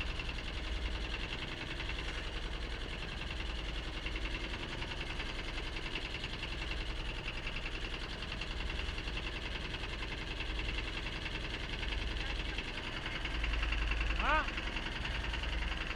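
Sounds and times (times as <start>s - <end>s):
boat engine running: 0.0s - 15.9s.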